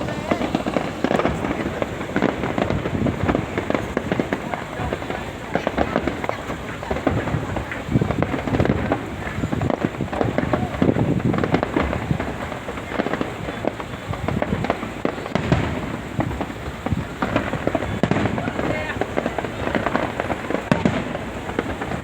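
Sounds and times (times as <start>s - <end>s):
fireworks banging and crackling: 0.0s - 22.0s.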